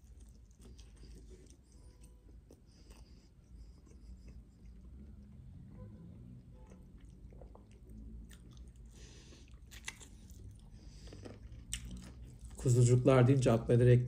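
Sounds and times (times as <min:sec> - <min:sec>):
chewing meat: 0:00.0 - 0:13.4.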